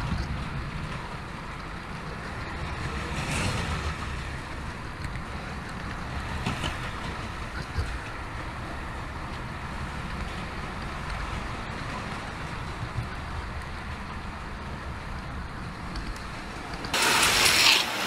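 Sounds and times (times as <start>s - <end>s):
model train rumbling on track: 0.0s - 18.0s.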